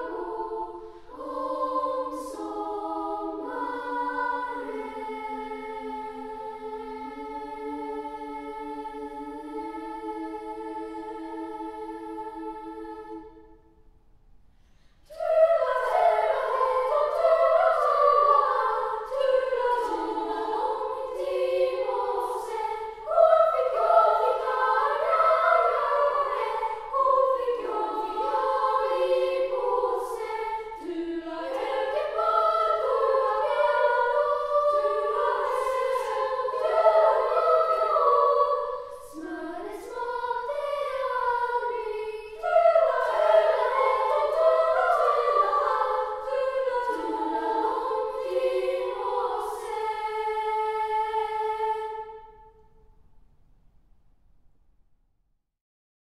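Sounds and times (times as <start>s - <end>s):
girls' choir singing a cappella: 0.0s - 13.8s, 15.0s - 52.8s.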